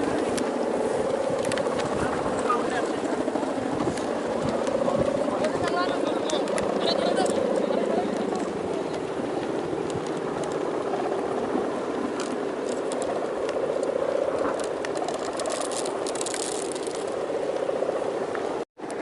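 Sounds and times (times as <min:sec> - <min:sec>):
kite hummer droning: 0:00.0 - 0:19.0
wind crackling on microphone: 0:00.0 - 0:19.0.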